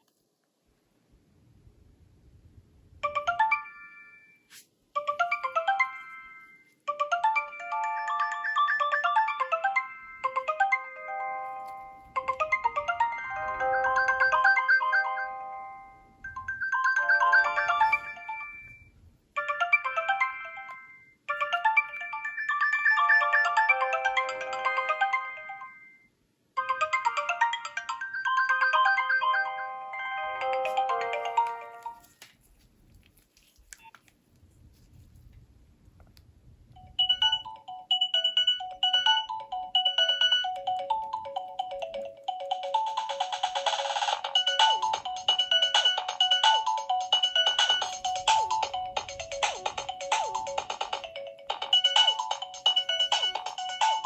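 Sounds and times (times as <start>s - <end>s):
synthesized ringtone melody: 3.0s - 4.4s, 5.0s - 32.0s, 36.8s - 54.0s.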